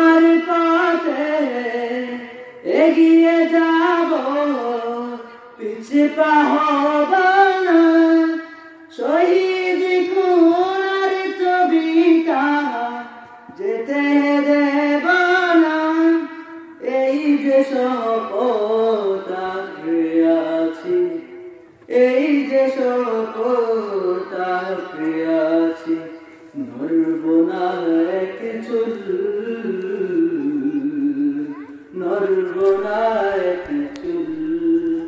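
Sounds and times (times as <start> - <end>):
boy singing unaccompanied: 0.0 - 35.0.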